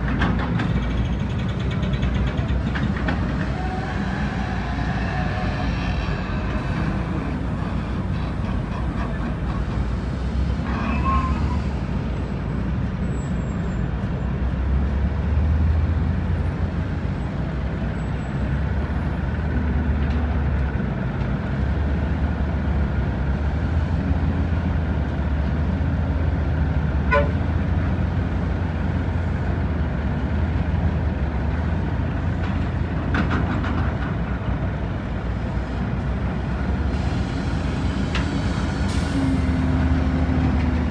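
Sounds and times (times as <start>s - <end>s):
heavy diesel engines rumbling: 0.0s - 40.9s.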